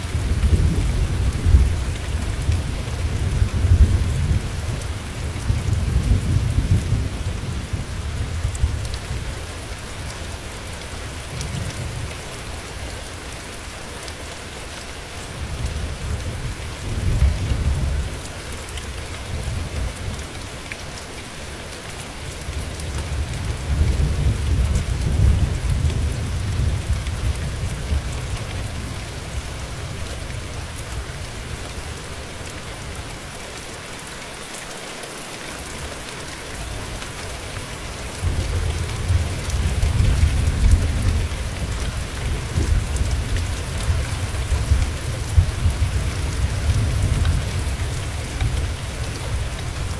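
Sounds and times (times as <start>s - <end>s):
steady rain hissing: 0.0s - 49.9s.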